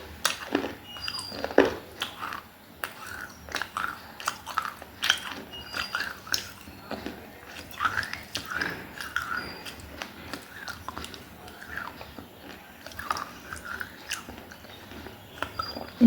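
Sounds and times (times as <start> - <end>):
chewing crunchy baked clay: 0.0 - 16.0.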